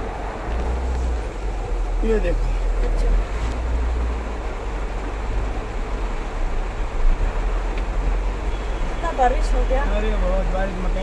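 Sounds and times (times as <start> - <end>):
engine and road rumble: 0.0 - 11.0
rain hiss: 0.0 - 11.0.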